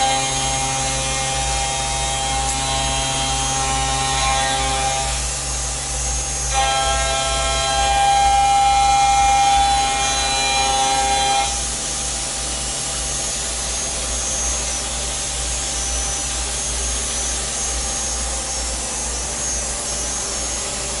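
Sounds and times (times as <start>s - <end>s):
lathe cutting metal ringing: 0.0s - 21.0s
machine humming and hissing: 0.0s - 21.0s.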